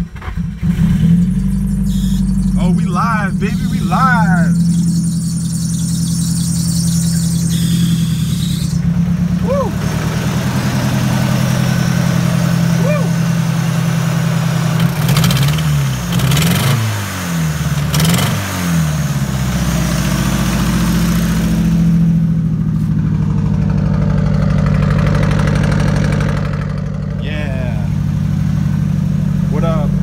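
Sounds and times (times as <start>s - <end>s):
car engine revving and idling: 0.0s - 30.0s.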